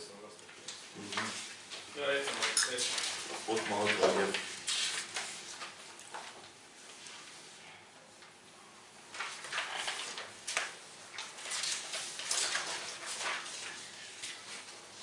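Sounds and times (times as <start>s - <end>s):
paper rustling: 0.5s - 7.4s, 9.1s - 15.0s.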